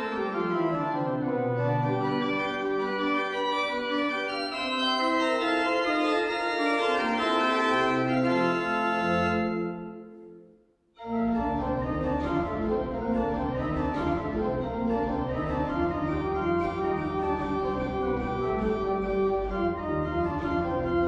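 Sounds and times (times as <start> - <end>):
church organ playing chords: 0.0 - 10.4, 11.0 - 21.0.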